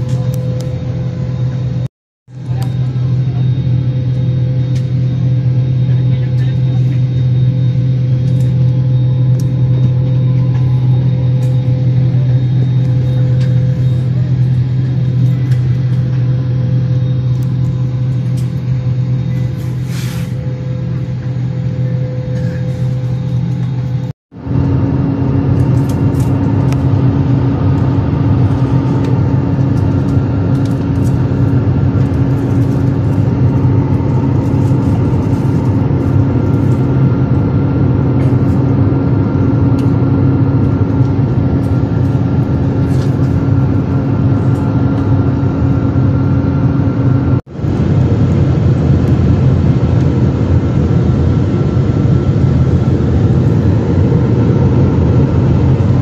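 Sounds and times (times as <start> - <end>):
jet engine drone: 0.0 - 56.0
low hum: 0.0 - 56.0.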